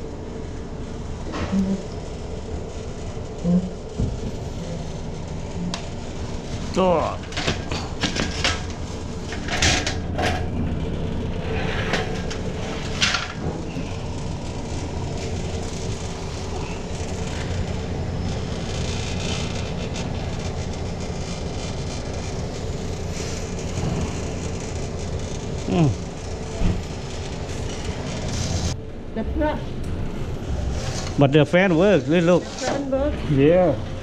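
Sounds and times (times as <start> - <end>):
refrigeration equipment humming: 0.0 - 34.0.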